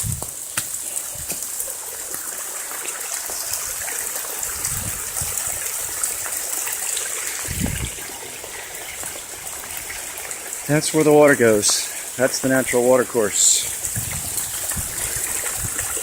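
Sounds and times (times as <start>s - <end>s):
runoff water splashing into mud: 0.0s - 16.0s.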